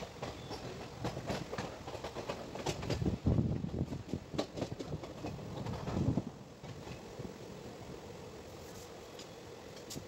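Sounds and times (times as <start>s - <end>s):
train rumble: 0.0s - 10.0s
wheels clacking over rail joints: 0.0s - 10.0s.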